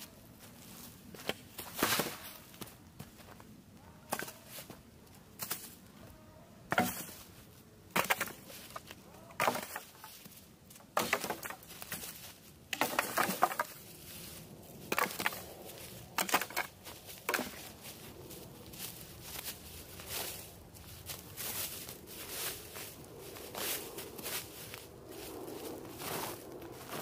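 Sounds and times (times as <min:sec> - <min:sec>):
dry twigs and leaves crunching: 0:00.0 - 0:27.0.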